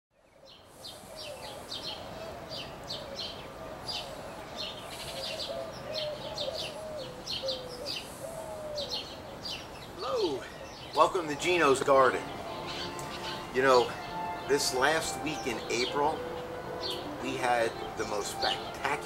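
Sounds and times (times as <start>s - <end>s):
birds chirping: 0.2s - 19.0s.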